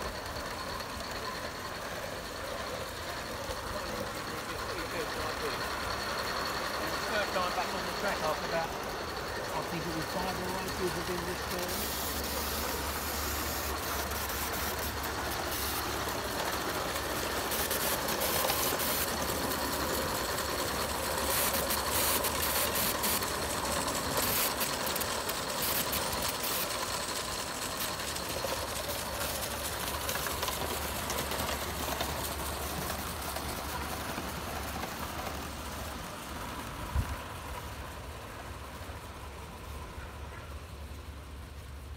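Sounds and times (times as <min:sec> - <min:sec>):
model steam train running: 0:00.0 - 0:41.9
wheels clicking on rail: 0:00.0 - 0:41.9.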